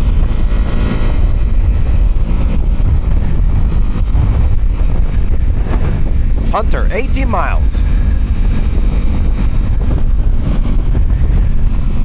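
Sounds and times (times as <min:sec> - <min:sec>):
motorcycle engine: 0:00.0 - 0:12.0
wind buffeting microphone: 0:00.0 - 0:12.0.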